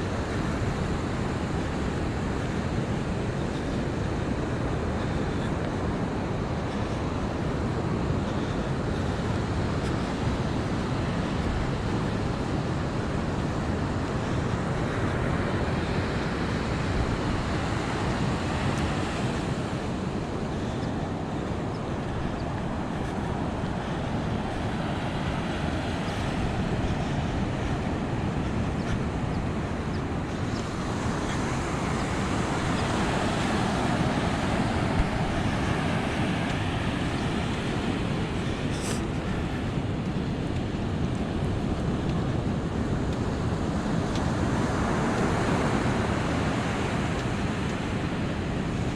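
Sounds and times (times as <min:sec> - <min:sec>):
ocean surf breaking: 0:00.0 - 0:48.9
wind rumbling on microphone: 0:00.0 - 0:48.9.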